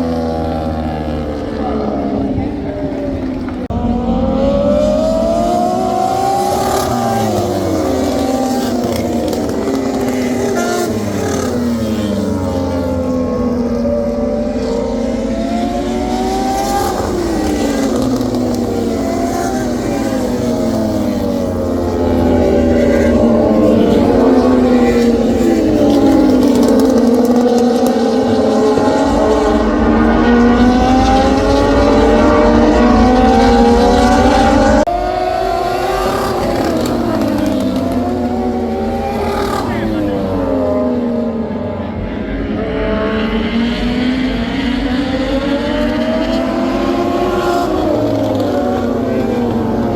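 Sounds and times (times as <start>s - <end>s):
racing motorcycle engines revving: 0.0s - 49.9s.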